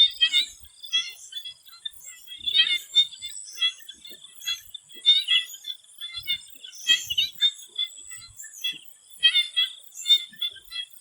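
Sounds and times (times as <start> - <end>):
frogs croaking: 0.0 - 11.0.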